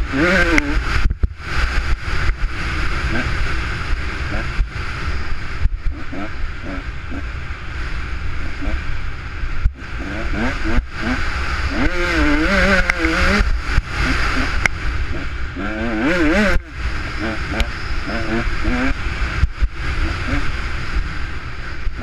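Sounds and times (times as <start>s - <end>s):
dirt bike engine revving: 0.0s - 22.0s
wind on microphone: 0.0s - 22.0s.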